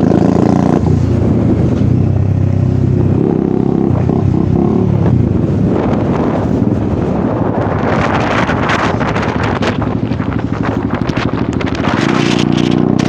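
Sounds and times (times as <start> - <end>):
motorcycle engine open exhaust: 0.0 - 13.0
wind noise on microphone: 0.0 - 13.0.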